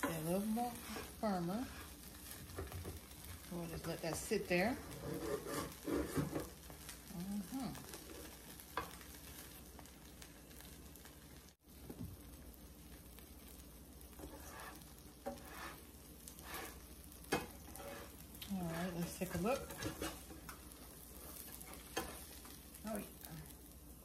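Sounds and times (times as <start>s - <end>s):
sandwich sizzling in a pan: 0.0s - 24.0s.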